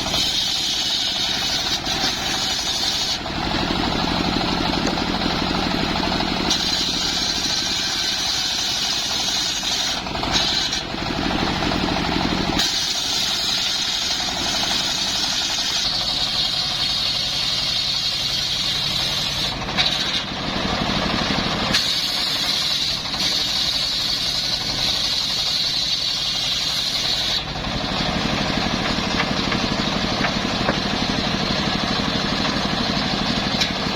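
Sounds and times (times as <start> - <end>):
engine-driven saw running: 0.0 - 33.9
high cutting whine: 0.0 - 33.9.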